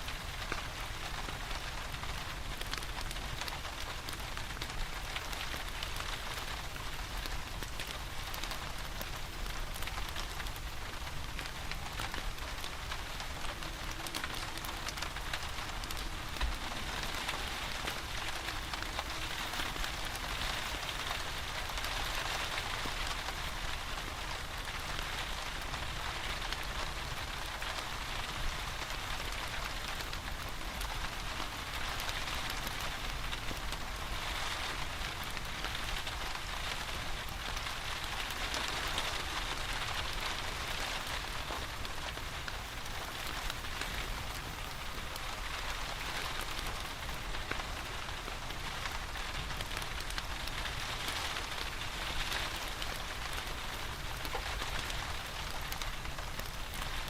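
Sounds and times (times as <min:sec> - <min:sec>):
rain falling: 0:00.0 - 0:57.0
fireplace crackling: 0:02.5 - 0:57.0.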